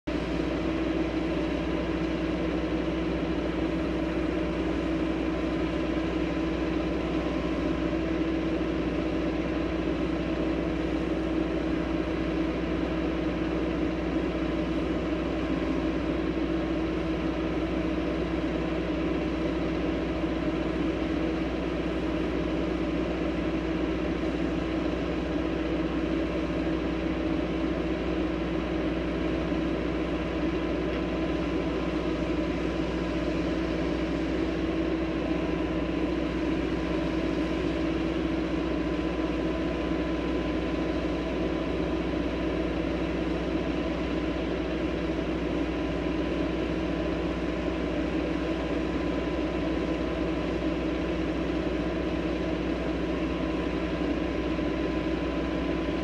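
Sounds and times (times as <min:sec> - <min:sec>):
diesel engine running: 0:00.1 - 0:56.0.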